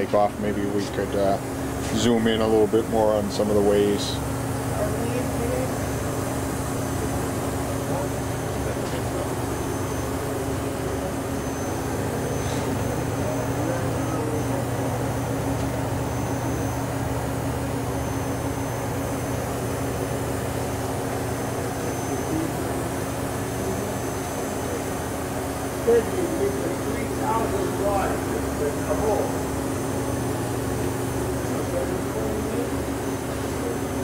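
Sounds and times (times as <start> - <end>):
low machine tones: 0.0 - 34.0
machine mechanical hum: 0.0 - 34.0.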